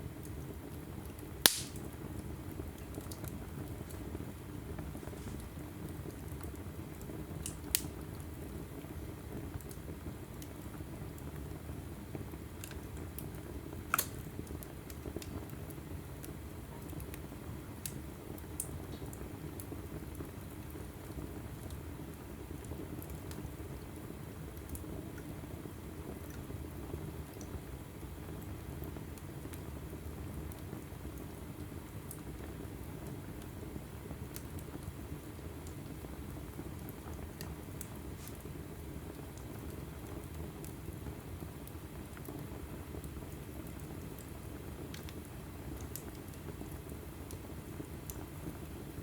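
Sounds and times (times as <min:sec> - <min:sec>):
logs burning in fireplace: 0:00.0 - 0:49.0.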